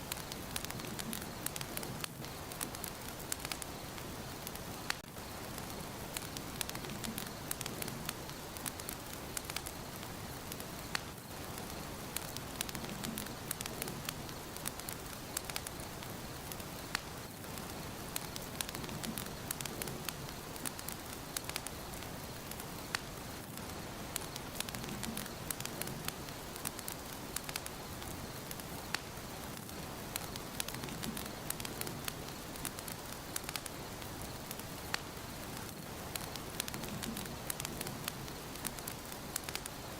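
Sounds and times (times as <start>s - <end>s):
sharp fire pops and snaps: 0.0s - 39.9s
wood fire crackling: 0.0s - 39.9s.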